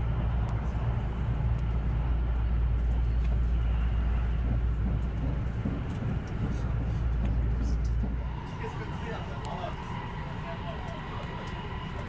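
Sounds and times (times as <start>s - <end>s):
train rumbling at speed: 0.0s - 12.0s.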